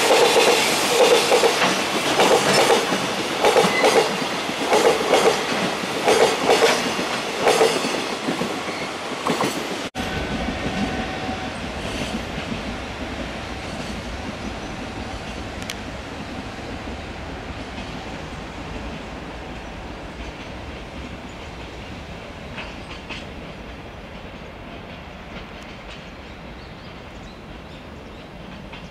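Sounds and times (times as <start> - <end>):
freight train rumbling on rails: 0.0 - 28.9.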